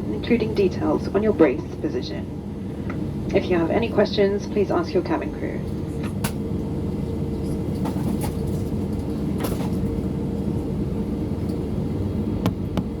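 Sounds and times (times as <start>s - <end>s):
airplane cabin rumble: 0.0s - 13.0s
faint hum: 0.0s - 13.0s.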